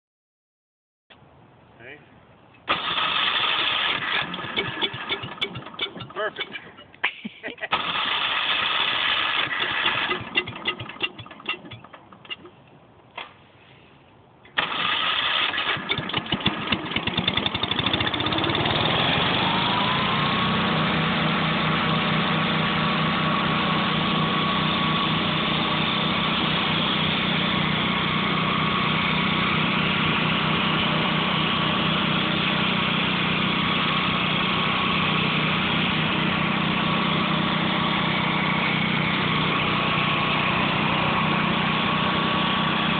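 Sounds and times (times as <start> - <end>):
walk-behind tractor engine running: 2.7 - 6.8, 7.7 - 12.7, 14.6 - 42.9.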